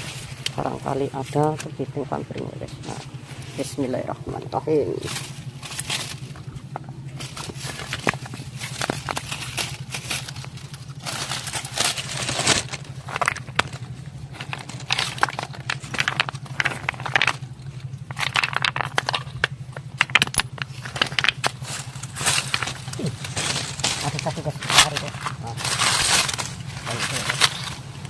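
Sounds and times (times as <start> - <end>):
dry leaves crackling and rustling: 0.0 - 28.0
steady low hum: 0.0 - 28.0
small stones knocking: 0.4 - 28.0.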